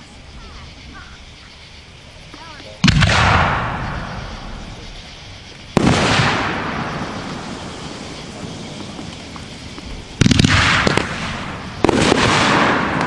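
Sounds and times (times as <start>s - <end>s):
firework bursts with echo: 0.0s - 13.0s.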